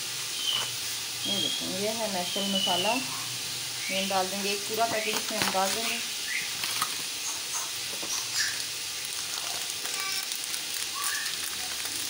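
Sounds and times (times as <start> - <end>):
minced meat sizzling in oil: 0.0 - 12.0.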